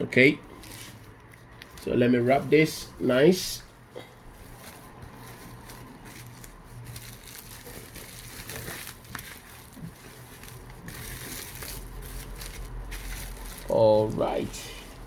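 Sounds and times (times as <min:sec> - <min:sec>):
plastic packaging being handled: 0:00.5 - 0:02.9, 0:04.2 - 0:15.0.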